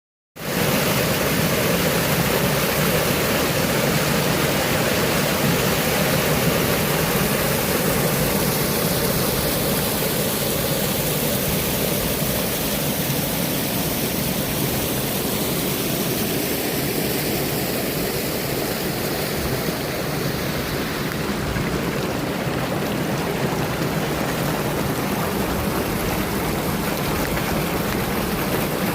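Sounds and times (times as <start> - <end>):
water rushing: 0.4 - 28.9.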